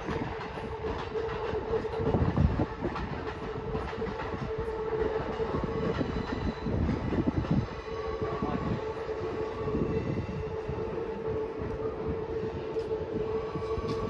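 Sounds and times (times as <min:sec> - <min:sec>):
electric train humming: 0:00.0 - 0:14.0.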